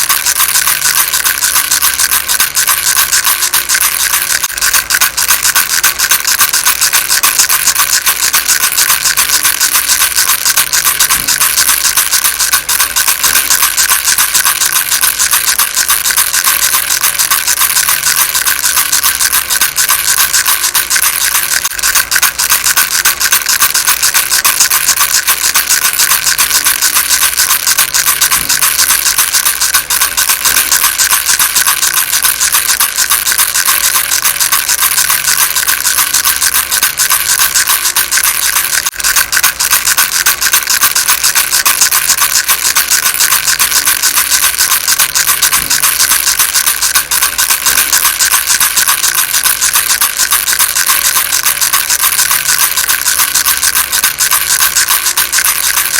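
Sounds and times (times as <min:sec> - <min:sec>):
baby rattle shaking: 0:00.0 - 0:55.9.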